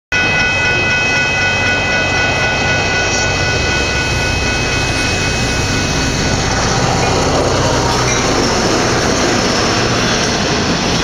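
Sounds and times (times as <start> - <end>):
steady high tones: 0.1 - 10.7
diesel locomotive engine drone: 0.1 - 11.0.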